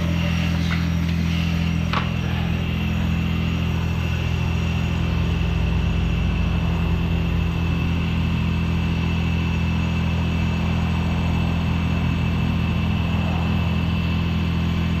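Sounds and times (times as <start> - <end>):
motor humming with high whine: 0.0 - 15.0.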